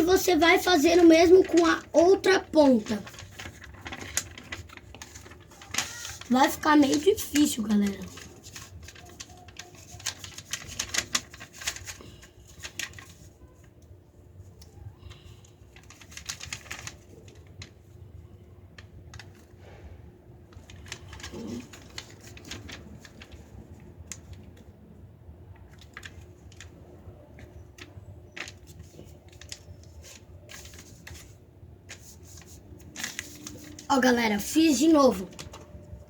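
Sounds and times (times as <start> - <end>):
paper being folded: 0.0 - 19.8, 20.5 - 24.7, 25.5 - 36.0.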